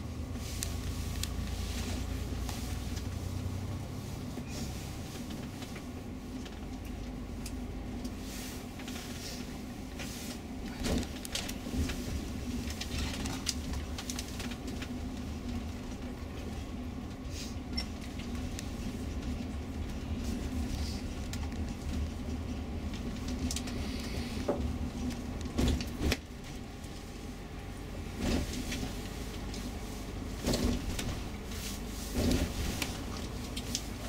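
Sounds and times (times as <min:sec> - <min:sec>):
coach engine and road drone: 0:00.0 - 0:34.0.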